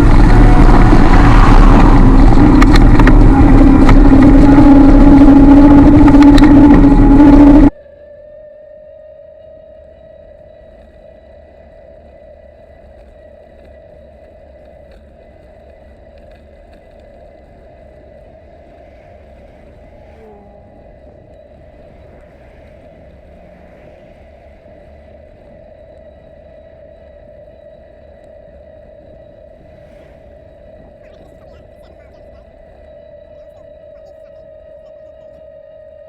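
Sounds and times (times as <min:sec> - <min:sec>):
wind and bicycle riding noise: 0:00.0 - 0:36.0.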